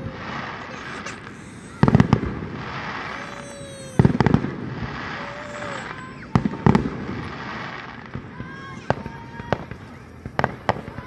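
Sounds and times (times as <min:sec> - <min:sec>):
fireworks booming: 0:00.0 - 0:11.0
fireworks crackling: 0:00.0 - 0:11.0.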